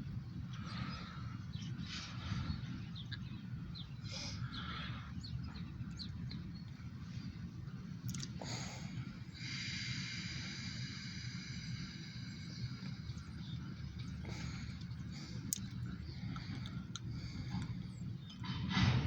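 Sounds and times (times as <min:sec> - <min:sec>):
diesel freight train rumbling: 0:00.0 - 0:19.0.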